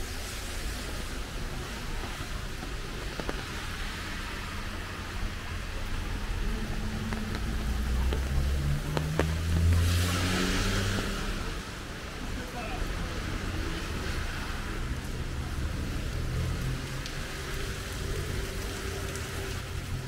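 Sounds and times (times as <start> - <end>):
rain on wet street: 0.0 - 20.0
tyres swishing on wet road: 0.0 - 20.0.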